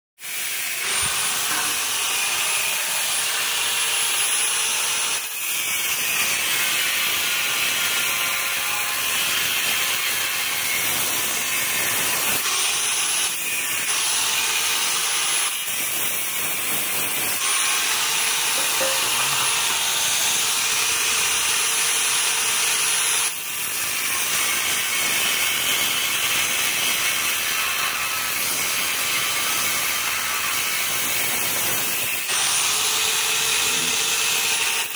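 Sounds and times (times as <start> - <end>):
angle grinder cutting steel: 0.2 - 34.9.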